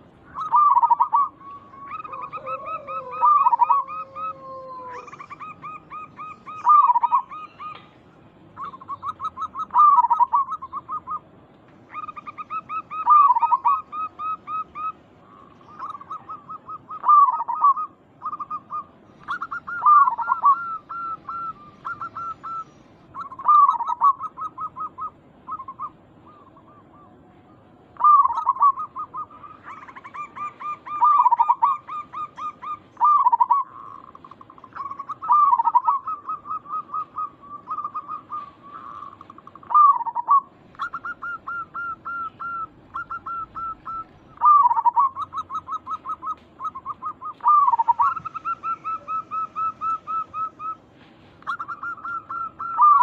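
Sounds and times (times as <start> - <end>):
doves cooing: 0.0 - 53.0
higher-pitched bird calling: 0.0 - 53.0.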